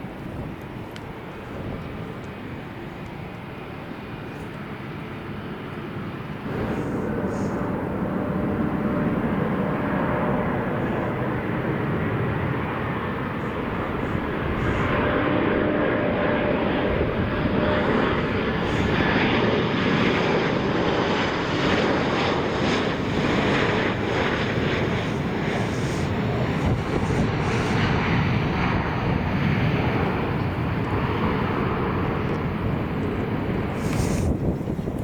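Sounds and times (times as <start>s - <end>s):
aircraft engines running: 0.0s - 35.0s.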